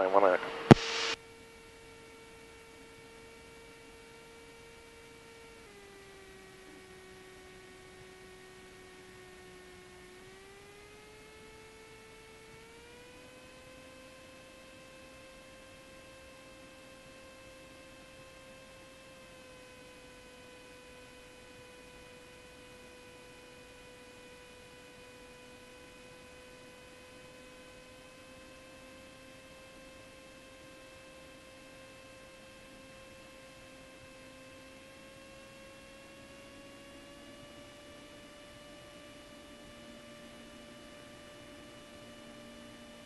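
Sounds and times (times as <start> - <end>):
faint aircraft engine hum: 0.0 - 43.0.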